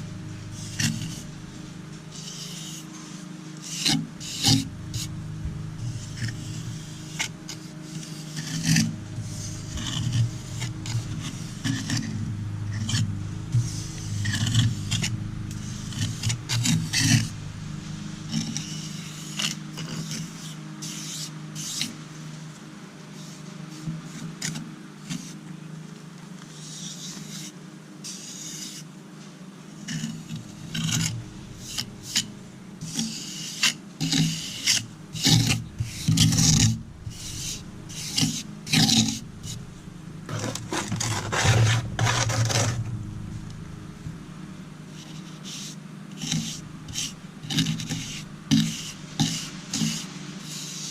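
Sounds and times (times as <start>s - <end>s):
hand tool scraping concrete: 0.0s - 22.0s, 28.1s - 28.8s, 29.9s - 39.7s, 40.3s - 43.0s, 45.0s - 50.9s.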